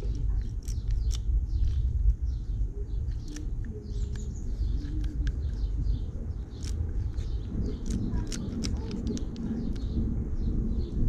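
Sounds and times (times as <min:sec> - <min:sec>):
sharp clicks: 0:00.0 - 0:10.0
small birds chirping: 0:00.0 - 0:11.0
steady low rumble: 0:00.0 - 0:11.0.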